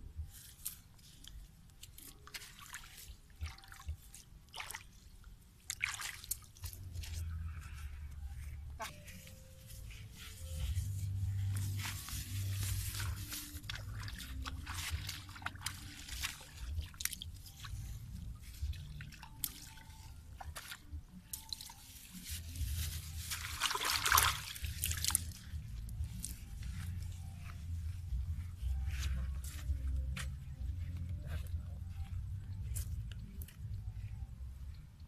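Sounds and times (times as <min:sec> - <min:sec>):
water drips and squelches: 0:00.0 - 0:08.9, 0:09.7 - 0:35.0.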